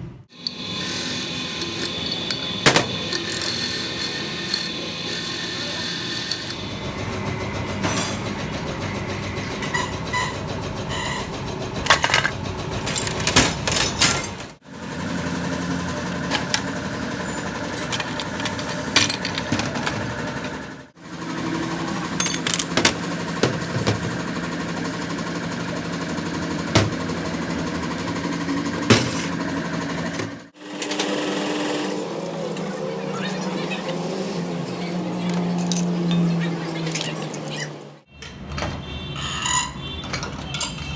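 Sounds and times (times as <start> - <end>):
workshop machine running: 0.0 - 40.9.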